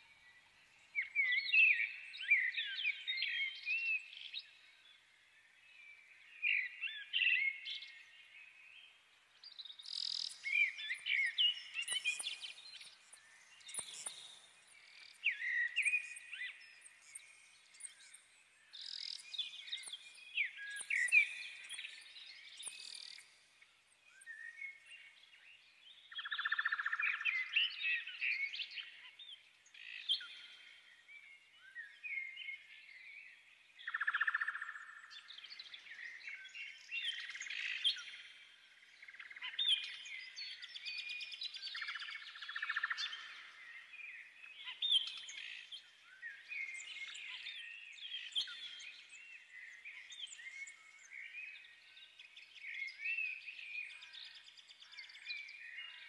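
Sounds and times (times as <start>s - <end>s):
small birds chirping and singing: 0.0s - 56.0s.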